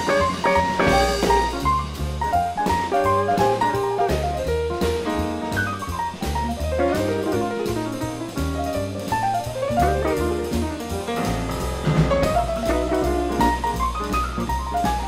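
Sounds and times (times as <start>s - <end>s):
double bass notes: 0.0s - 15.0s
drum kit with cymbal strokes: 0.0s - 15.0s
fast melodic solo line: 0.0s - 15.0s.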